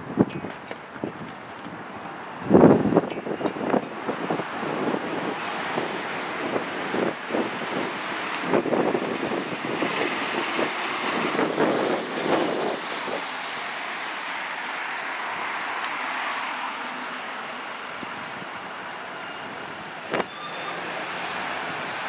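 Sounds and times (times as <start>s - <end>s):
street traffic noise: 0.0s - 22.0s.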